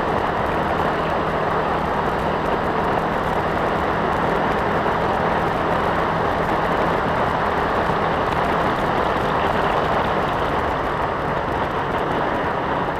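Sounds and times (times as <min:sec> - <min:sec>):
tyres on dirt road: 0:00.0 - 0:12.9
vehicle engine: 0:00.0 - 0:12.9.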